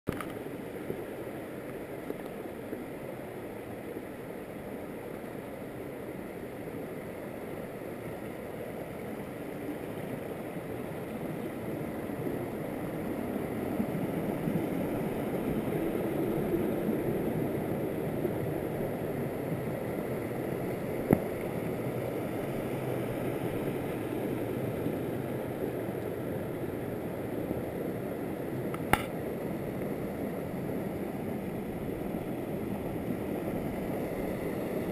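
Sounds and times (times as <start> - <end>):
stream water rushing over rocks: 0.1 - 34.9.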